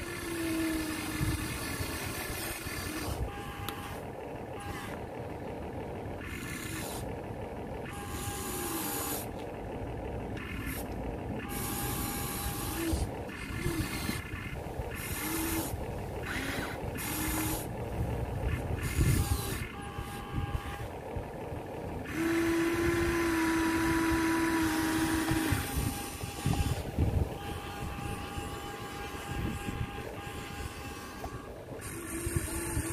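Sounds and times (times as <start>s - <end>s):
small electric gear motors whining: 0.0s - 32.9s.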